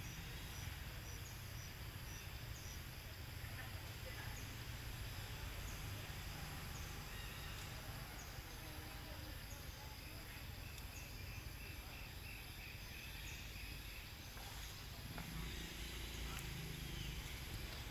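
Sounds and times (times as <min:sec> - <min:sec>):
faint insect buzz: 0:00.0 - 0:17.9
steady background hiss: 0:00.0 - 0:17.9.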